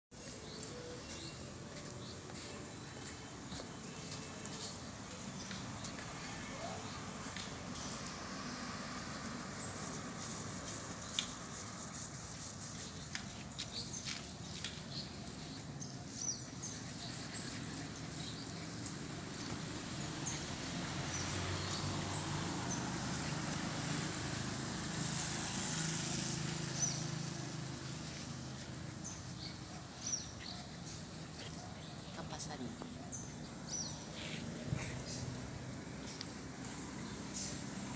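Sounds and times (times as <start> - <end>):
puppies scuffling in sand: 0.1 - 37.9
small birds chirping: 0.1 - 37.9.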